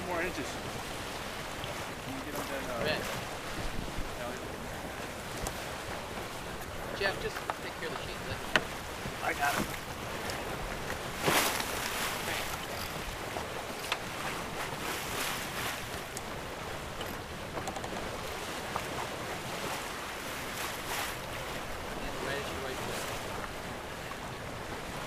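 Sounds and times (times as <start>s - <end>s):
wind buffeting microphone: 0.0s - 22.2s
water rushing along hull: 0.0s - 25.0s.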